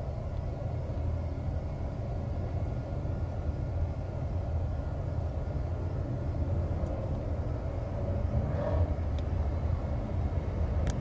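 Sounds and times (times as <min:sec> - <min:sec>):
faint steady whine: 0:00.0 - 0:11.0
jet engines rumbling: 0:00.0 - 0:11.0.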